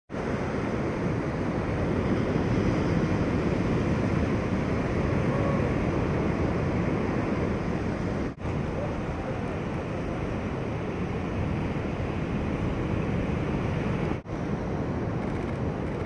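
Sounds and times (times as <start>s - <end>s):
heavy surf breaking: 0.1s - 16.0s
wind on microphone: 0.1s - 16.0s.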